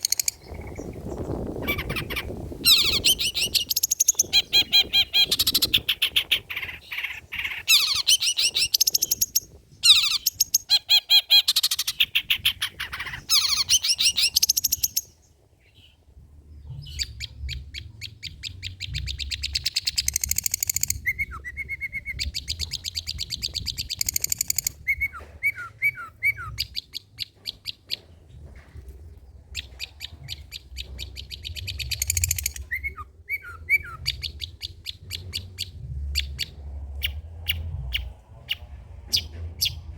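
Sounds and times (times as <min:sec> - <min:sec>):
bird chattering song: 0:00.0 - 0:16.0, 0:16.6 - 0:39.9.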